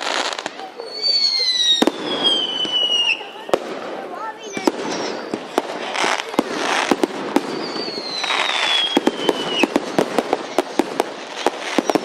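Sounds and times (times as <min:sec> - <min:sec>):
fireworks bangs and crackles: 0:00.0 - 0:12.0
hissing firework bursts: 0:00.0 - 0:12.0
whistling firework: 0:00.0 - 0:12.0.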